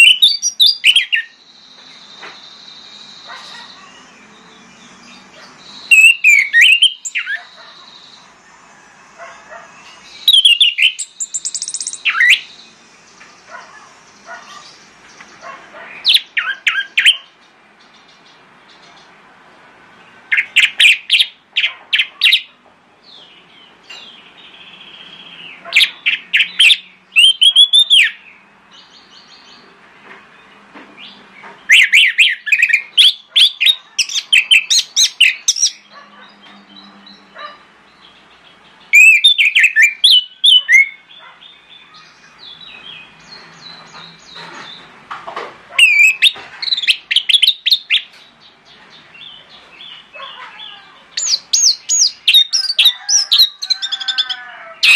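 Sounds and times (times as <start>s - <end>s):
soft bird calls: 0.0s - 19.2s, 20.1s - 54.9s.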